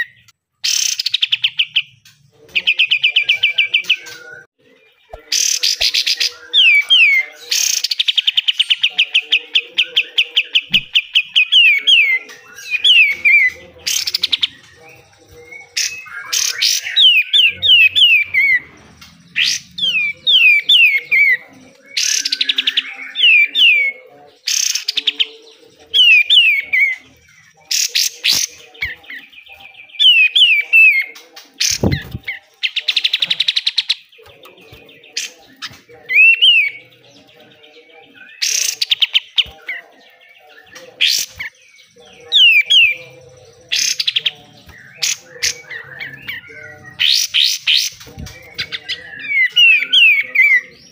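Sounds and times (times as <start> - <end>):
songbird trilling and whistling: 0.0 - 50.9.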